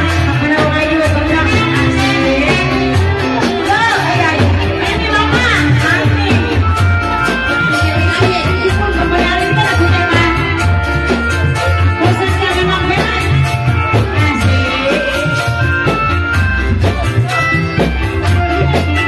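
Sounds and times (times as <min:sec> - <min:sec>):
woman singing through a microphone: 0:00.0 - 0:17.5, 0:18.3 - 0:19.0
amplified band with low beat: 0:00.0 - 0:19.0.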